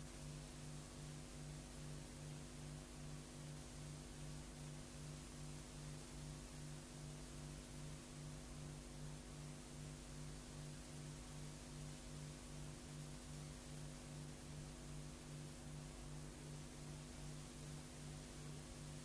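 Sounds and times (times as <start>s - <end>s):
film soundtrack hiss: 0.0s - 19.0s.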